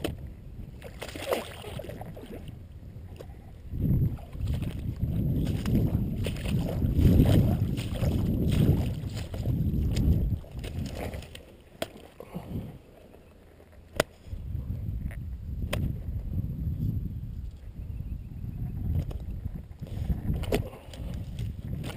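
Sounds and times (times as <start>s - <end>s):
wading through water and mud: 0.0s - 16.5s, 18.7s - 21.9s.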